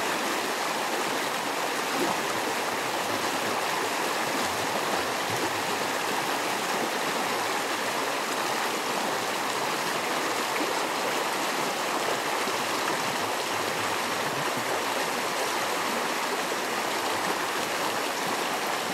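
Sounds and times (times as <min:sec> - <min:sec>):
creek flowing: 0:00.0 - 0:18.9.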